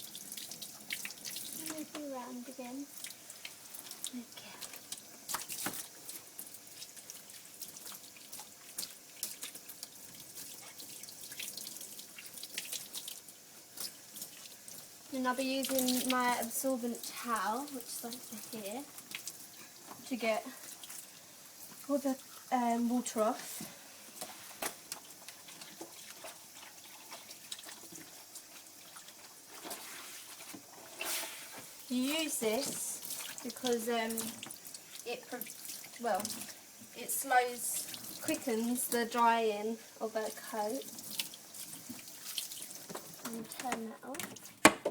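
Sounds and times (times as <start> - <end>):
water dripping: 0.0 - 29.8, 31.8 - 44.9
water running and splashing: 0.0 - 44.9.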